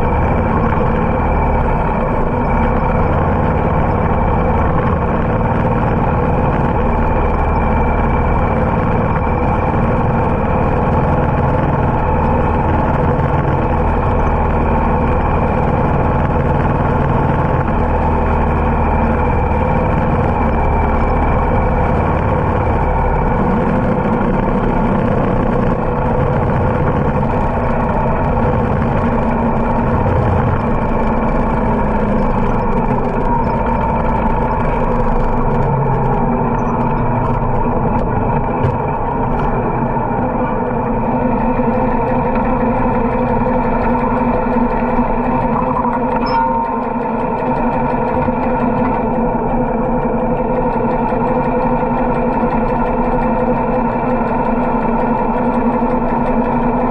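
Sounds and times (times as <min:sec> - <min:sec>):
motorcycle engine running: 0:00.0 - 0:56.9
road and wind noise: 0:00.0 - 0:56.9.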